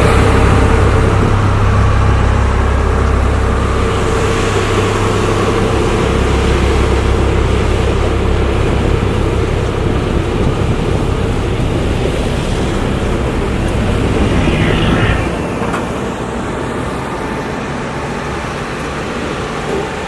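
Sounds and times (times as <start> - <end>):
heavy vehicle engines running: 0.0 - 20.0.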